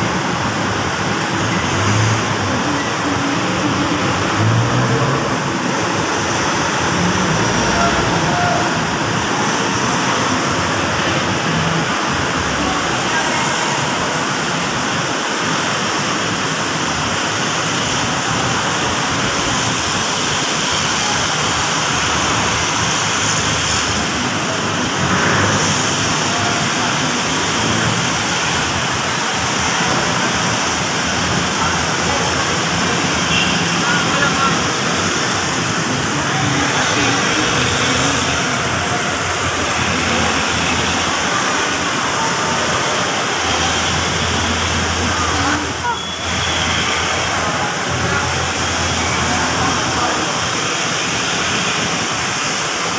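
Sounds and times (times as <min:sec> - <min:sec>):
traffic and engine roar: 0:00.0 - 0:52.9.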